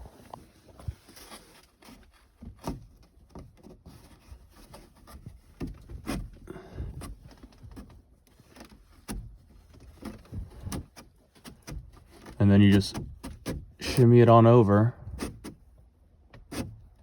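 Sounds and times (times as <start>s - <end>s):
plastic rubbing: 0.0s - 17.0s.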